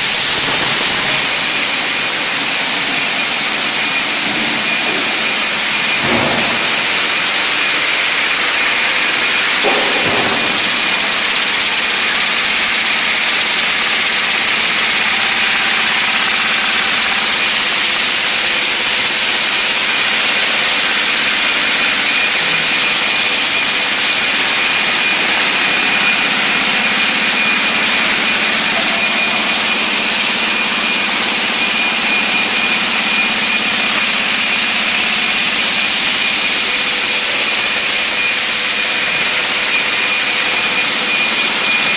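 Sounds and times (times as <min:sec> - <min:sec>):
conveyor machinery running: 0:00.0 - 0:41.9
thin steady whine: 0:00.0 - 0:41.9.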